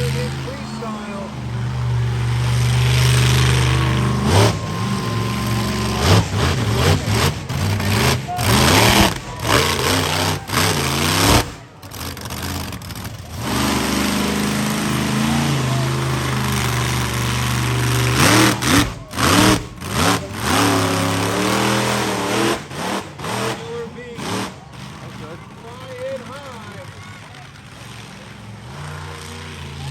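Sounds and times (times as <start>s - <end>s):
monster truck engine revving: 0.0s - 29.9s.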